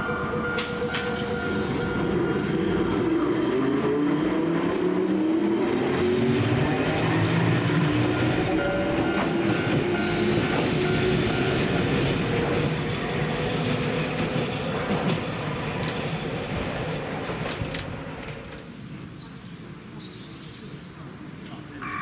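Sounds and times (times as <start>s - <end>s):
tram wheel and rail noise: 0.0s - 22.0s.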